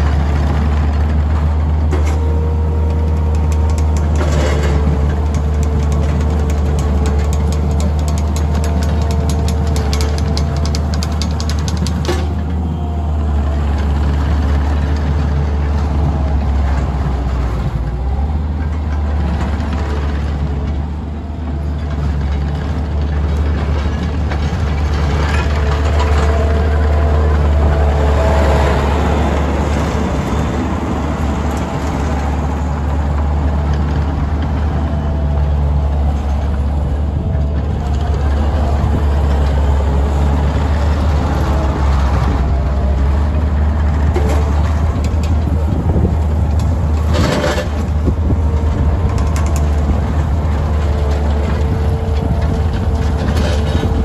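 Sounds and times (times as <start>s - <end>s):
track loader diesel engine running: 0.0s - 54.0s.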